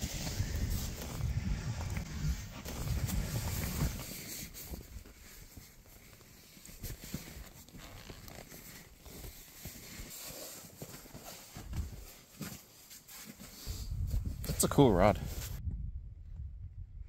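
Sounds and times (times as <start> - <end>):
footsteps in deep snow: 0.0 - 14.6, 15.2 - 15.6.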